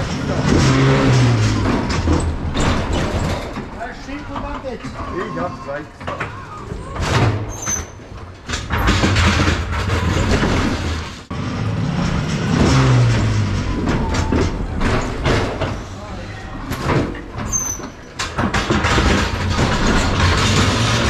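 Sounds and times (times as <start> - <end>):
metal clanks: 0.0 - 21.0
wheels rumbling over floor: 0.0 - 21.0.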